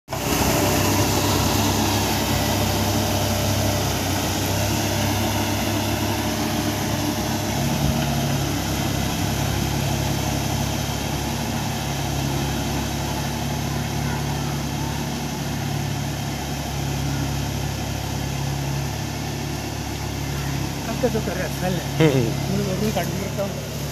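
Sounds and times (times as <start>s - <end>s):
rotovator churning wet mud: 0.1s - 23.9s
tractor diesel engine under load: 0.1s - 23.9s.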